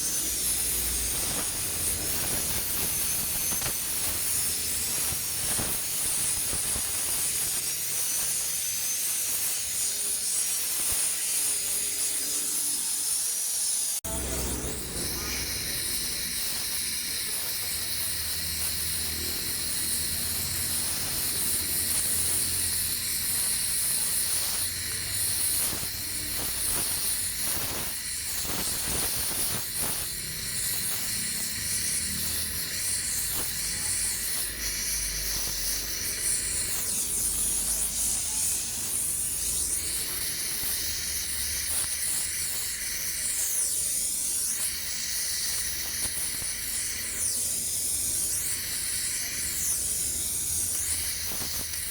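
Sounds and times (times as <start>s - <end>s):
welding hiss: 0.0s - 51.9s.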